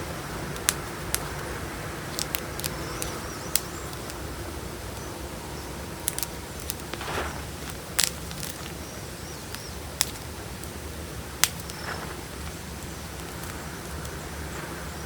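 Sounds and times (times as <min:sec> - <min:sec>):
steady low hiss: 0:00.0 - 0:15.0
chalk crunching snaps: 0:00.4 - 0:05.1, 0:06.0 - 0:14.7.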